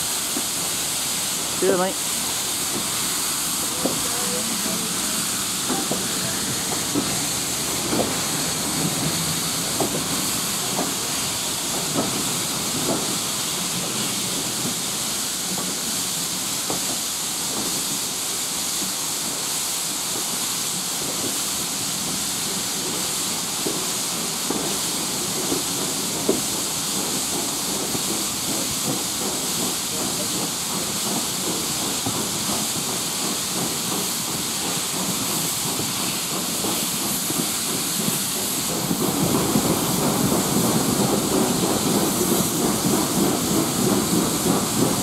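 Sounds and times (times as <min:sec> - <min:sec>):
steam hissing: 0:00.0 - 0:45.0
train knocking: 0:00.0 - 0:45.0.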